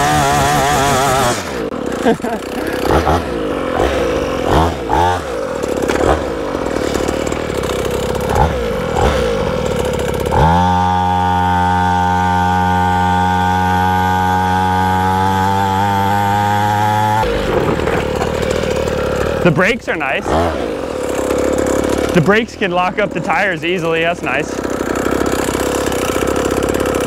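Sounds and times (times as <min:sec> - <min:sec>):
pit bike engine revving: 0:00.0 - 0:27.0.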